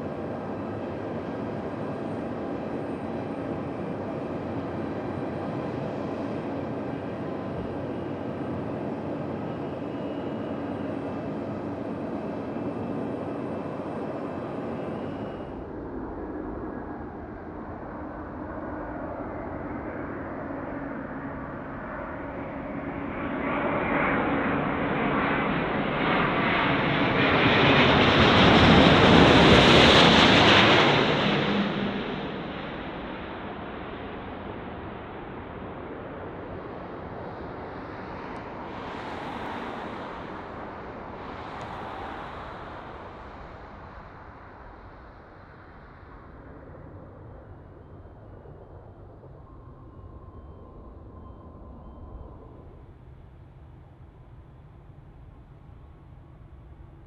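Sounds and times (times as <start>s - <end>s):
jet airliner engine noise: 0.0s - 57.0s.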